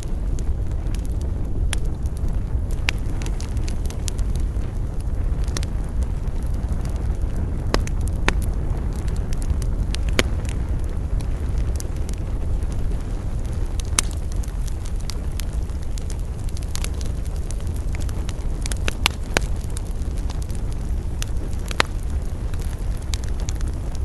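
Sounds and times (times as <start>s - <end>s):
burning wood popping: 0.0s - 24.0s
campfire crackling: 0.0s - 24.0s.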